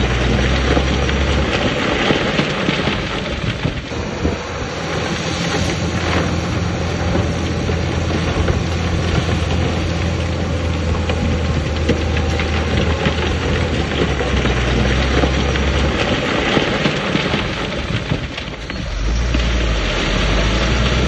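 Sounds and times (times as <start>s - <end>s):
dense crackling rattle: 0.0s - 21.0s
diesel machinery engine drone: 0.0s - 21.0s.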